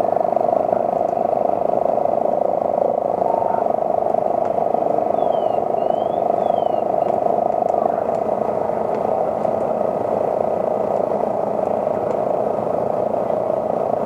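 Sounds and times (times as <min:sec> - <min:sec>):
fire engine running: 0:00.0 - 0:14.0.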